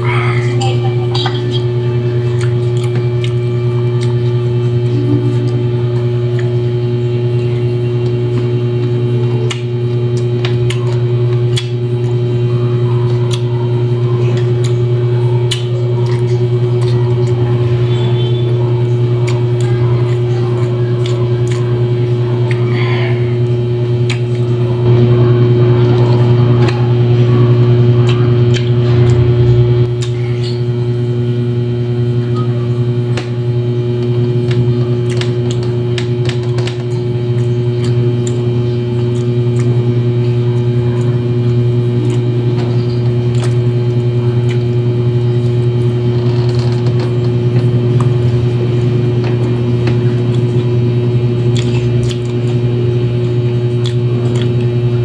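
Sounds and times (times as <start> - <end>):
man chewing food: 0.0 - 24.9, 25.6 - 31.3, 33.1 - 55.0
loud low hum: 0.0 - 55.0.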